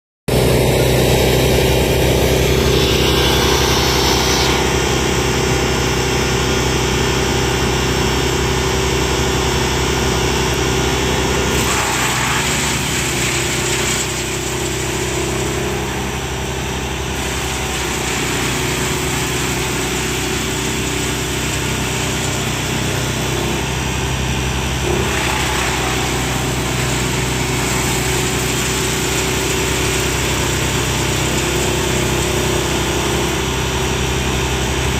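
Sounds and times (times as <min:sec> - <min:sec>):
wood chipper diesel engine running: 0:00.3 - 0:34.9.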